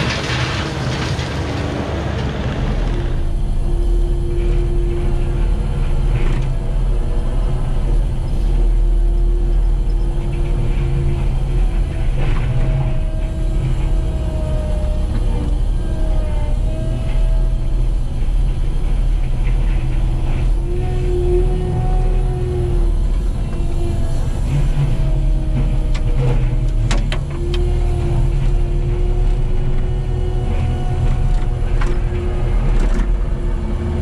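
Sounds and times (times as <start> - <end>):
diesel engine working hard: 0.0 - 34.0
wavering whine: 2.1 - 34.0.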